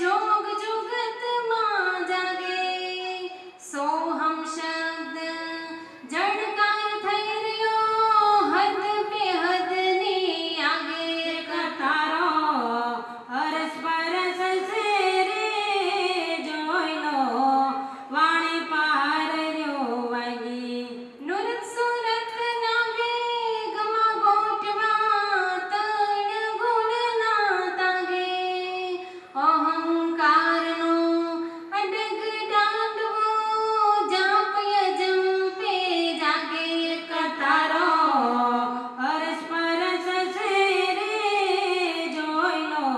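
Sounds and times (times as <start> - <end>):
woman singing: 0.0 - 42.9.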